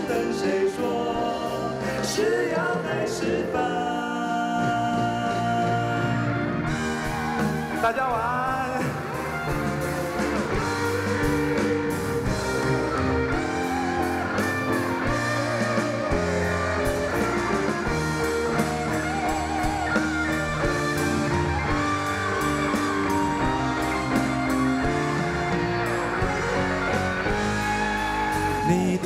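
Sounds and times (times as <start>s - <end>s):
live band playing pop-rock: 0.0s - 29.0s.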